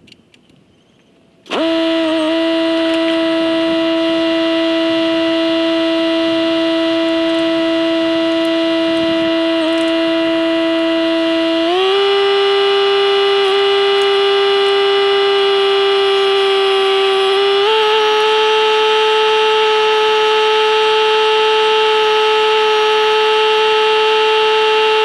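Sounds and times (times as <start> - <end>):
tractor diesel engine and hydraulics: 0.0 - 25.0.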